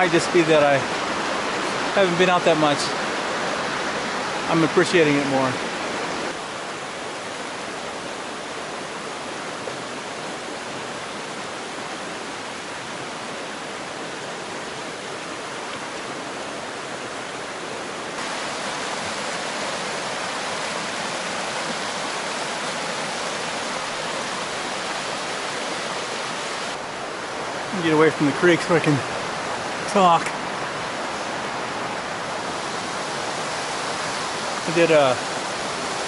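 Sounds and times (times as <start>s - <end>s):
creek rushing over rocks: 0.0s - 36.0s.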